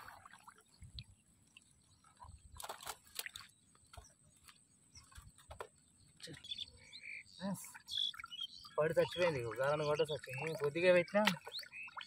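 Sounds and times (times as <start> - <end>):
soft splashes: 0.0 - 6.5, 7.4 - 12.0
water sloshing and dripping: 0.0 - 6.6, 7.4 - 12.0.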